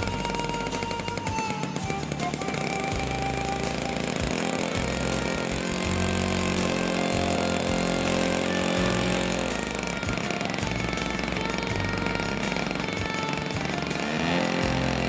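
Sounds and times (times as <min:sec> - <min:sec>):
model plane engine running: 0:00.0 - 0:15.0.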